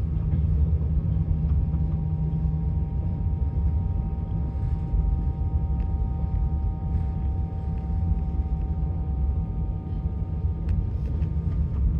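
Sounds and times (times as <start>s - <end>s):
faint steady whine: 0.0s - 11.9s.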